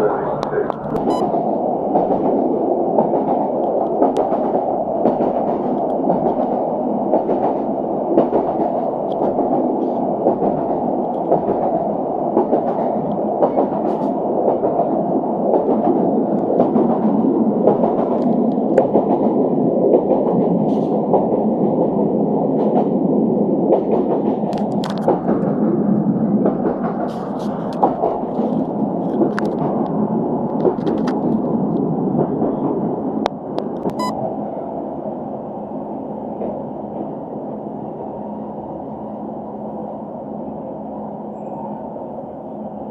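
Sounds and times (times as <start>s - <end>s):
train rolling noise: 0.0s - 42.9s.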